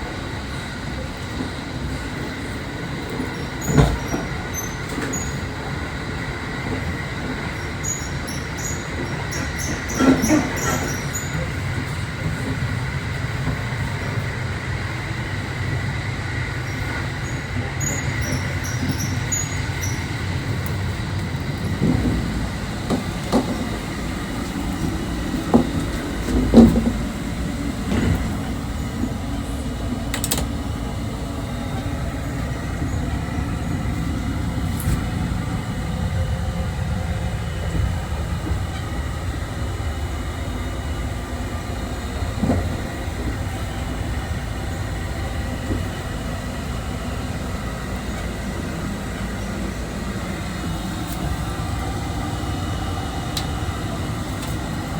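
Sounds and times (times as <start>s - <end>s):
electric train rumbling: 0.0s - 54.9s.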